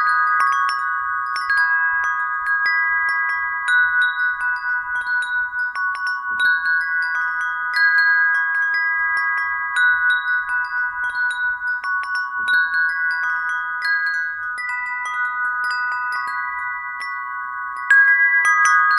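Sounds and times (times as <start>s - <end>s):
brass wind bells ringing: 0.0s - 18.9s.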